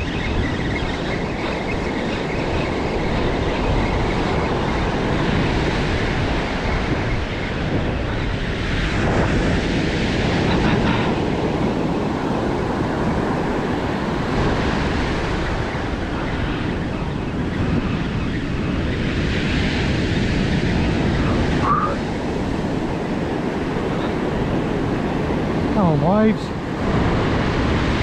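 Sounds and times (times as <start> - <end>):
ocean surf breaking: 1.2 - 28.0.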